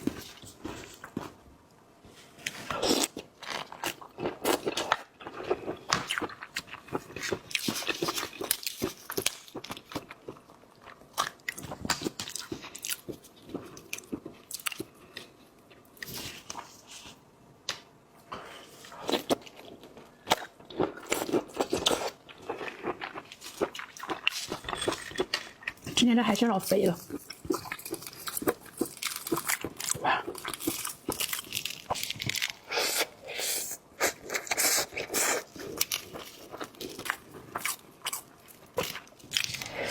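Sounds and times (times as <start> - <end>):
crunching and chewing shellfish: 2.4 - 17.1, 18.6 - 26.0, 26.7 - 39.9.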